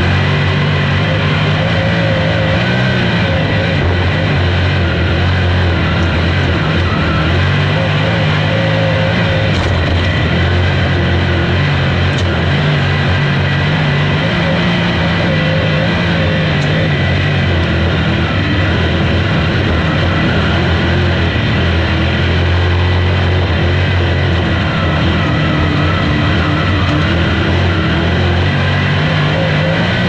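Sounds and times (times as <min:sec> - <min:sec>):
race car engine at full speed: 0:00.0 - 0:30.0.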